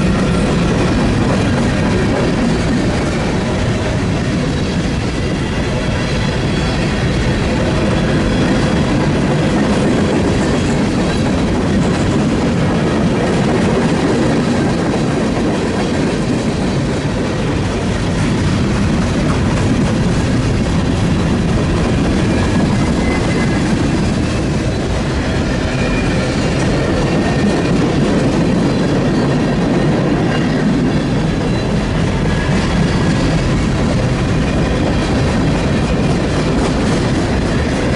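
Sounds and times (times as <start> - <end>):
freight train rumbling and clattering: 0.0 - 37.9.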